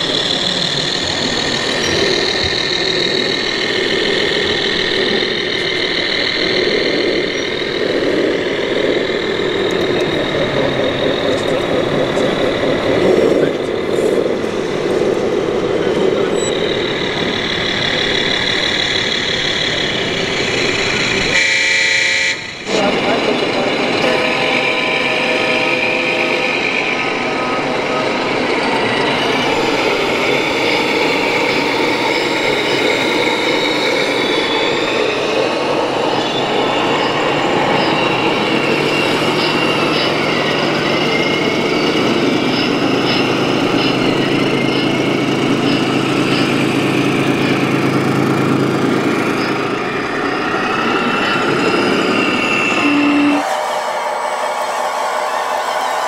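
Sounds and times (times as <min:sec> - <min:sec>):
model trucks engine noise: 0:00.0 - 0:53.5.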